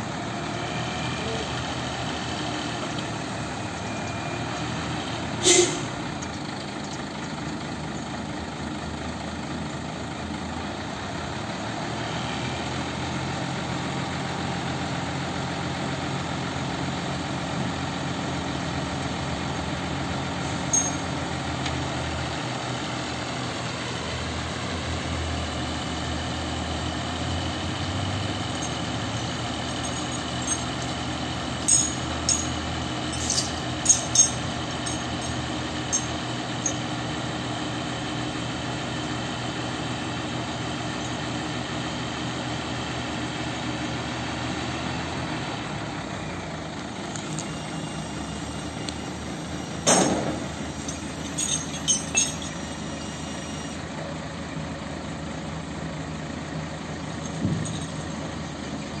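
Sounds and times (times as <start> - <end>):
truck diesel engine idling: 0.0 - 59.0.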